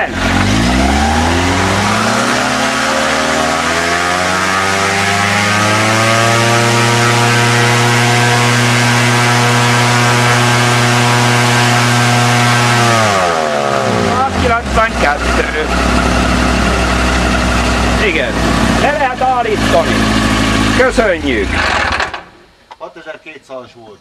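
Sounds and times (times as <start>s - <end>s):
engine and propeller at full throttle: 0.0s - 22.2s.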